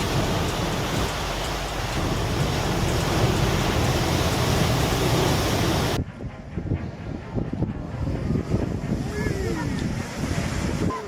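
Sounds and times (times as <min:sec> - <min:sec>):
storm waves rushing: 0:00.0 - 0:11.0
wind: 0:00.0 - 0:11.0.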